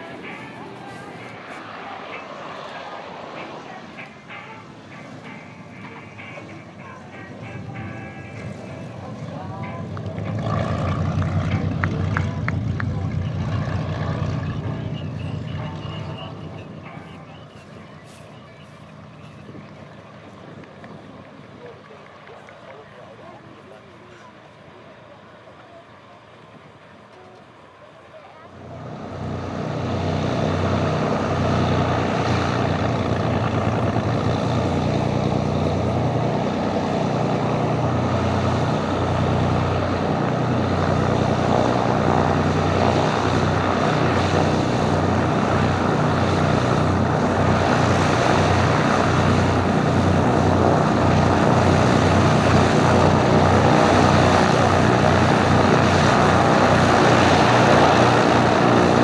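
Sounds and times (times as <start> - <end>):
aircraft piston engines running: 0.0 - 59.0.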